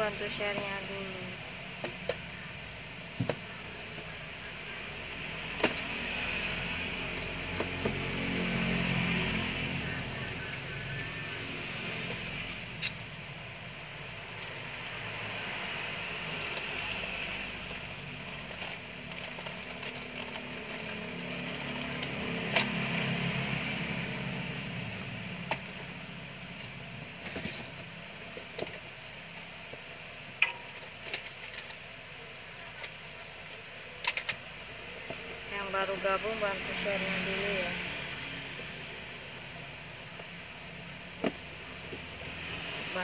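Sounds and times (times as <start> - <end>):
steady background noise: 0.0 - 43.0.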